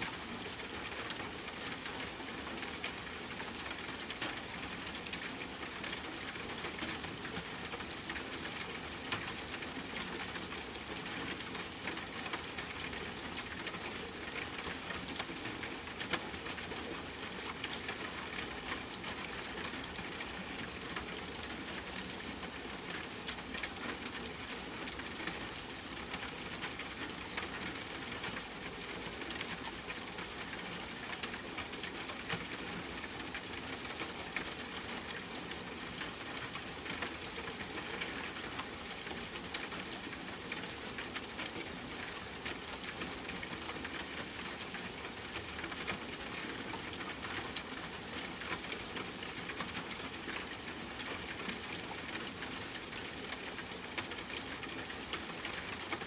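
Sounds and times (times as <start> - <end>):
raindrops ticking on hard surface: 0.1 - 56.0.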